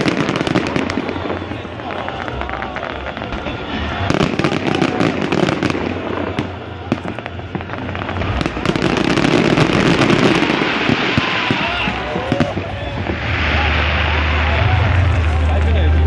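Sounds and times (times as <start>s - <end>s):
fireworks crackling and popping: 0.0s - 16.0s
rumble of firework bursts: 0.0s - 16.0s.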